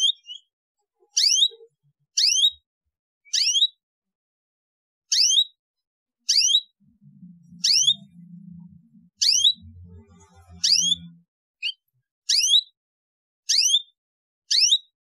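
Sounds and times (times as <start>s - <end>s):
canary chirping: 0.0s - 3.8s, 5.1s - 5.6s, 6.2s - 12.8s, 13.4s - 15.0s.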